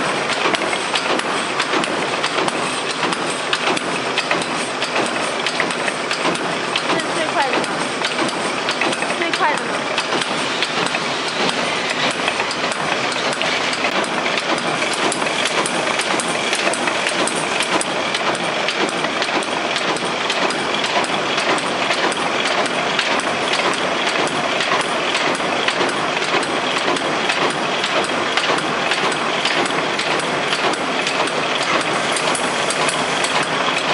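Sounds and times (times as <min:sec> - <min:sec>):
hole-punching machine clatter: 0:00.0 - 0:33.9.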